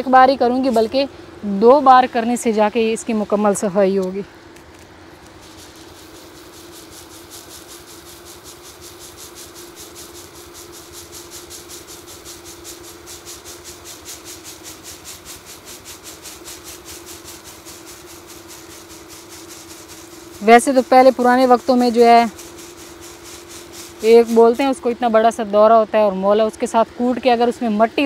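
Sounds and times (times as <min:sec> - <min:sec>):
electric fan humming: 0:00.0 - 0:28.0
grain pouring rustling hiss: 0:00.0 - 0:28.0.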